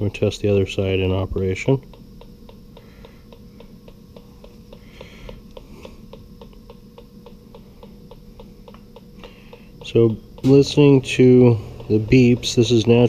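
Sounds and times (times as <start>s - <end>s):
gas leak detector ticking: 0.0s - 13.0s.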